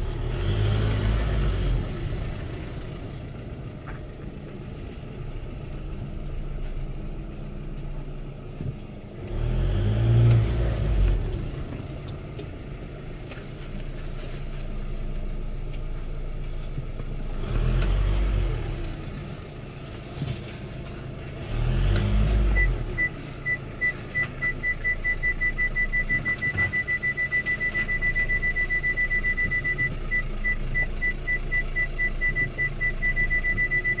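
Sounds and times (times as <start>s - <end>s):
diesel car engine running: 0.0s - 34.0s.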